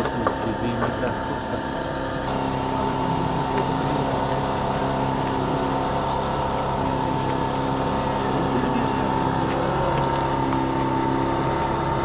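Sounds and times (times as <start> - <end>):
motor droning with high tone: 0.0 - 12.0.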